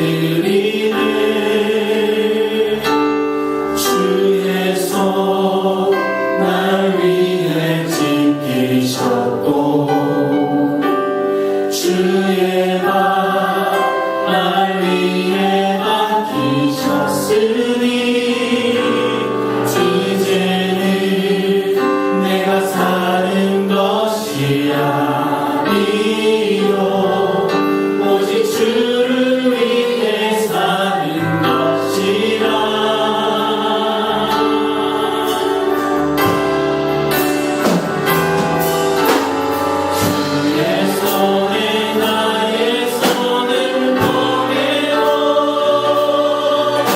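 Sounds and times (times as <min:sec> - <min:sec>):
congregation singing in unison: 0:00.0 - 0:46.9
sustained music: 0:00.0 - 0:46.9.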